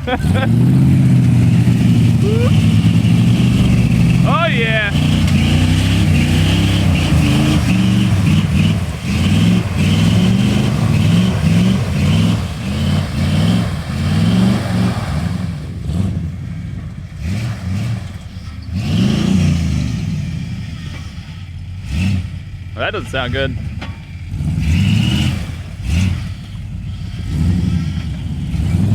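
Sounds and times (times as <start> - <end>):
vehicle engine revving hard: 0.0 - 28.9.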